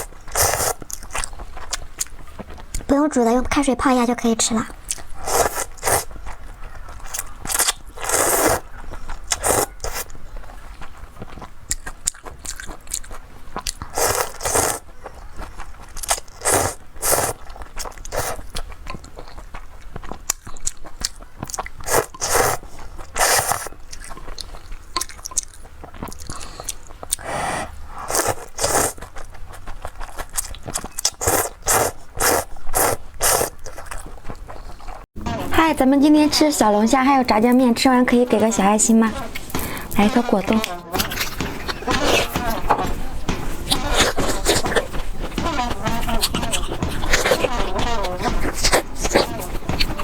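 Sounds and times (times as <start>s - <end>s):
crunchy food being chewed: 0.0s - 35.6s, 36.3s - 50.0s.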